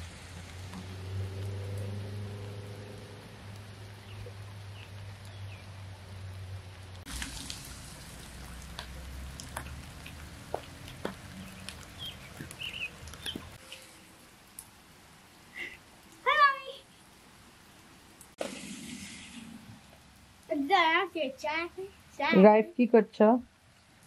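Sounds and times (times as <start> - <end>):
raindrops dripping: 0.0 - 24.0
steady rain falling: 0.0 - 24.0.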